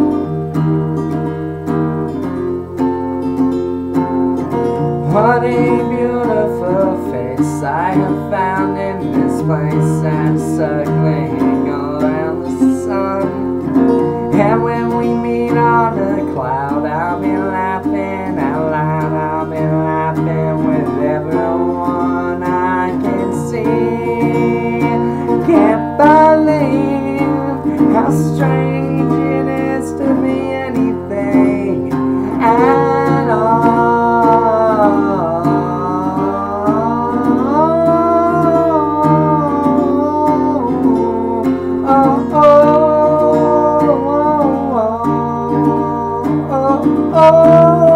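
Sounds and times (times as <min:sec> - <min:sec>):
acoustic guitar strumming: 0:00.0 - 0:47.9
man singing: 0:04.7 - 0:47.9.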